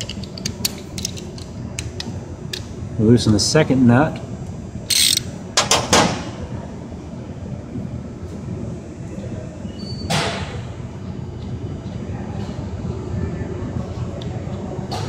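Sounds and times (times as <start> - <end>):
low workshop rumble: 0.0 - 15.0.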